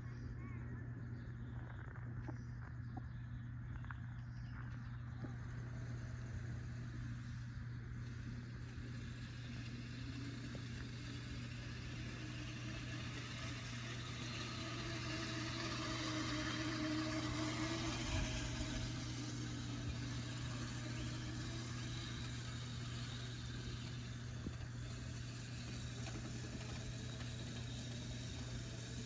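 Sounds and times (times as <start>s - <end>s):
steady low hum: 0.0s - 29.0s
small dirt bike motor running: 1.0s - 29.0s.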